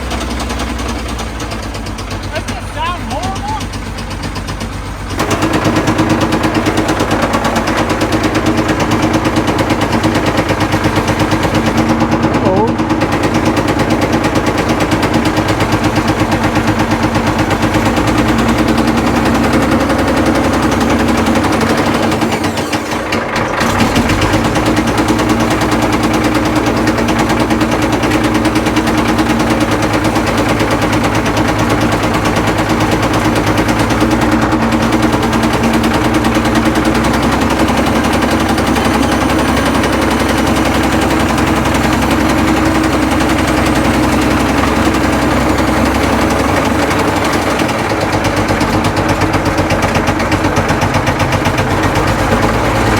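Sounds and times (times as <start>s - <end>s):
diesel engine knocking: 0.0s - 52.9s.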